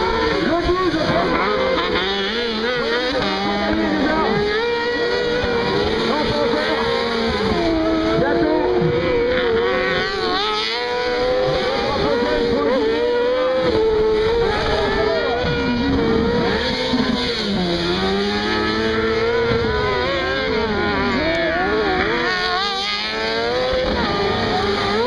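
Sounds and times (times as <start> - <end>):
buggy engines revving: 0.0 - 25.0.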